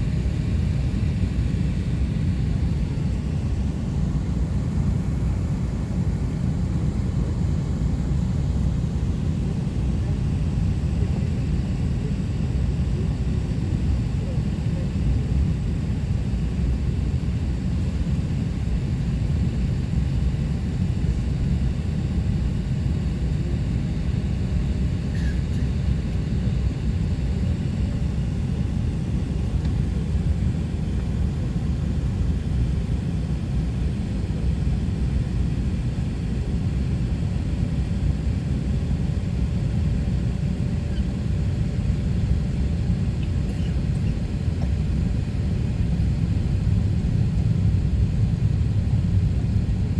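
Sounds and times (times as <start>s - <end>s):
airliner cabin rumble: 0.0s - 49.9s.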